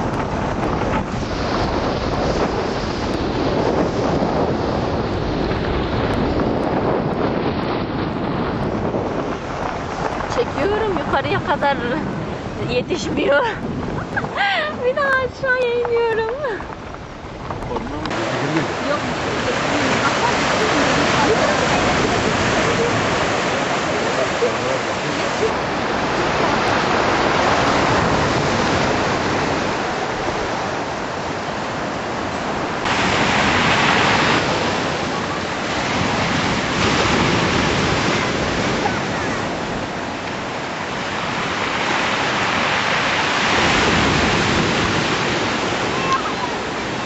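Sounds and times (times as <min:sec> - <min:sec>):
rushing water roar: 0:00.0 - 0:47.0.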